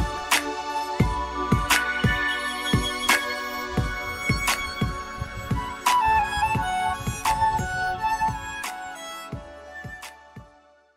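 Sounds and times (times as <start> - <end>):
melody: 0.0 - 10.0.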